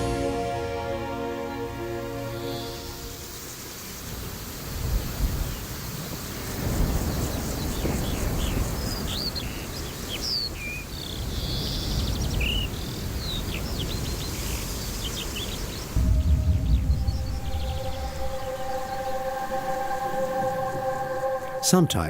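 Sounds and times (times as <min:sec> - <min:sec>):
wild birds chirping: 0:02.0 - 0:22.0.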